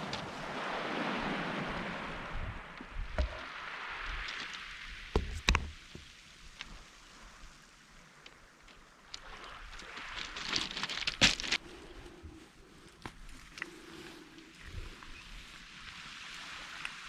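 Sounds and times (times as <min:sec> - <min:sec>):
surf washing over pebbles: 0:00.0 - 0:11.6, 0:14.6 - 0:17.0.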